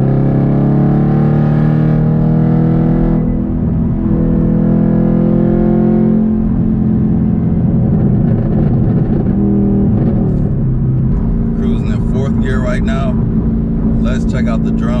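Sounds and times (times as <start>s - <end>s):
car engine drone in cabin: 0.0s - 15.0s
road noise: 0.0s - 15.0s.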